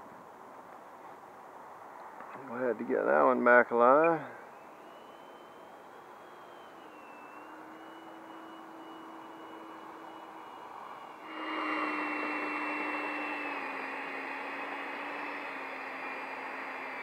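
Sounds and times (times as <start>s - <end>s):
electric ducted fan whine: 0.0s - 17.0s.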